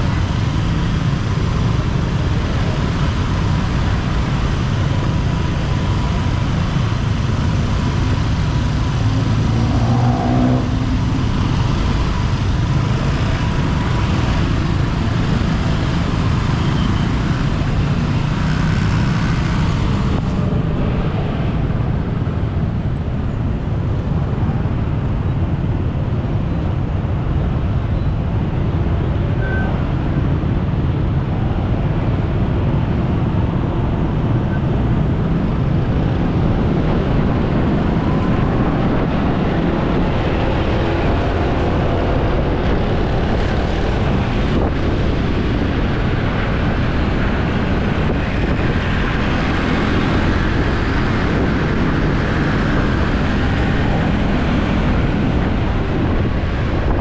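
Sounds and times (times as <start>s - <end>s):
road traffic noise: 0.0s - 57.0s.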